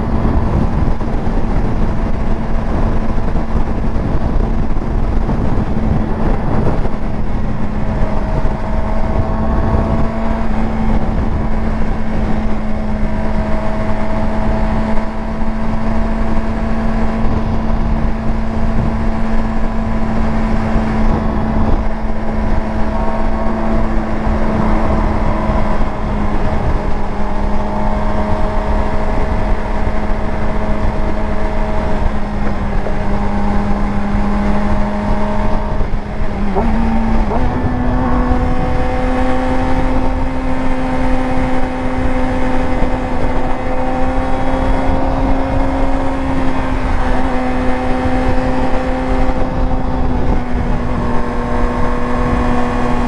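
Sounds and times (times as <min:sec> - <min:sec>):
motorcycle engine cruising: 0:00.0 - 0:53.0
wind noise: 0:00.0 - 0:53.0.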